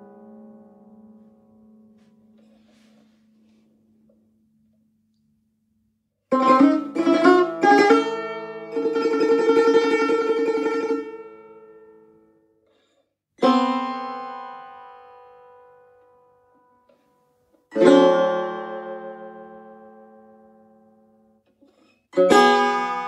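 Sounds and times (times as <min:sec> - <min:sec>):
plucked lute notes: 0:00.0 - 0:04.5, 0:06.3 - 0:23.0.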